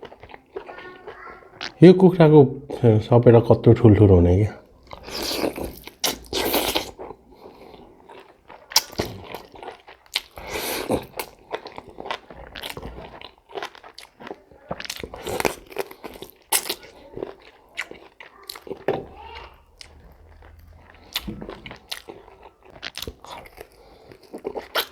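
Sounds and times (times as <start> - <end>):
person chewing food: 0.0 - 1.8, 2.7 - 24.9
wet mouth noises: 4.6 - 24.9.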